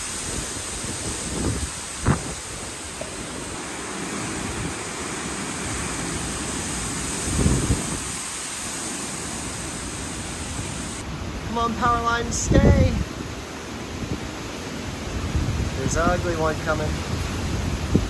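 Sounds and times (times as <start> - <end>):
wind buffeting microphone: 0.0 - 13.4, 14.0 - 18.0
hurricane wind and rain: 0.0 - 18.0.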